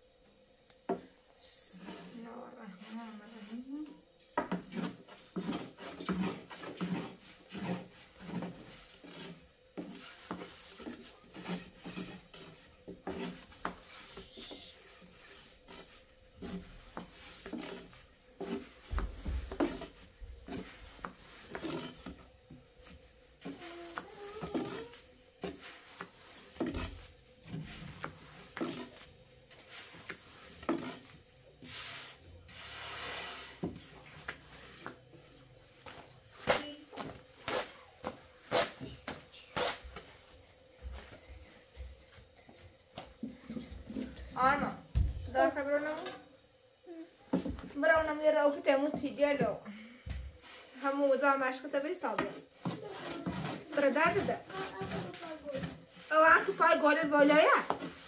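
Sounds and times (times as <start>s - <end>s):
rolling pin rolling dough: 1.7s - 46.2s, 50.4s - 58.0s.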